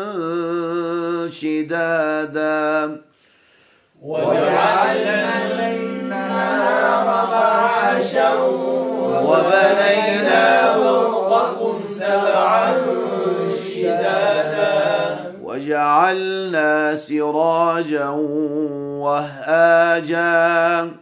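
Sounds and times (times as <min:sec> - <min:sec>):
man chanting recitation: 0:00.0 - 0:03.1, 0:04.0 - 0:21.0.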